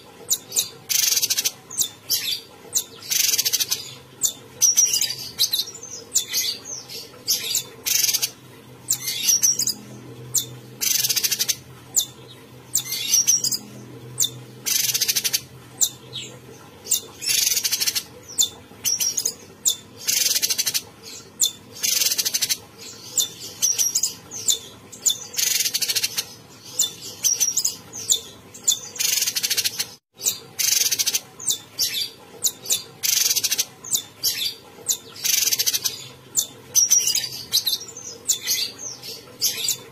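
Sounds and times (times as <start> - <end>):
songbird singing harsh chattering phrases: 0.0 - 39.9.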